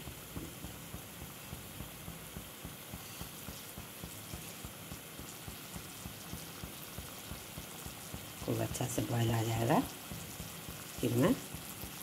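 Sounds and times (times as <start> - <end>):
faint steady hiss: 0.0 - 12.0
gravy bubbling pops: 0.0 - 12.0.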